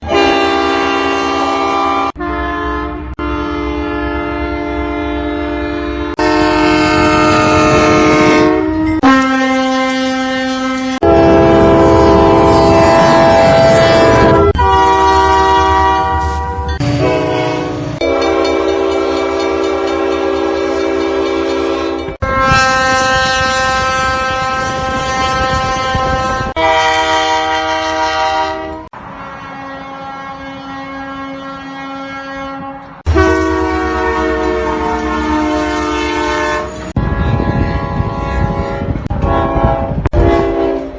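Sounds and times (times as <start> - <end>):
train air horns blowing chords: 0.0 - 40.9.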